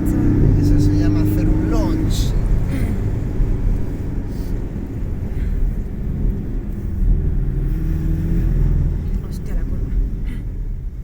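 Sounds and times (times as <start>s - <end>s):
car engine running: 0.0s - 11.0s
road and tyre rumble: 0.0s - 11.0s.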